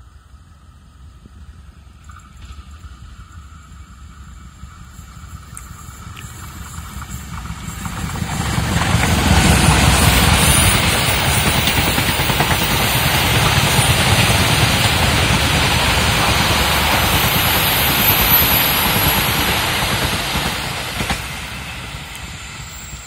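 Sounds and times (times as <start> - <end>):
train passing rumble: 0.0 - 23.0.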